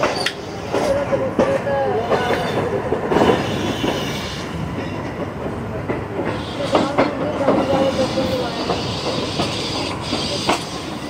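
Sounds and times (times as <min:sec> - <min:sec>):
train rumble: 0:00.0 - 0:11.0
train wheels clacking over rail joints: 0:00.0 - 0:11.0.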